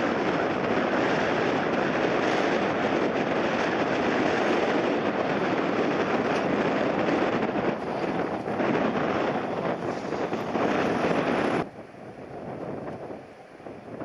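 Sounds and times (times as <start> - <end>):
gusty wind: 0.0 - 14.0
jet engines roaring: 0.0 - 14.0.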